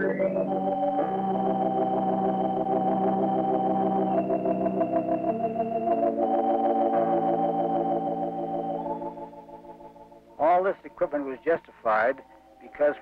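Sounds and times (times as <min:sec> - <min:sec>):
organ chords with vibrato: 0:00.0 - 0:13.0.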